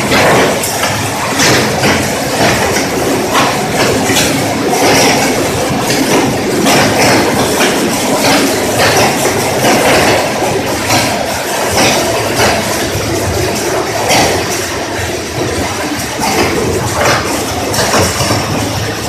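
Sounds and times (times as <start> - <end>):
pipe shredder grinding: 0.0 - 19.0.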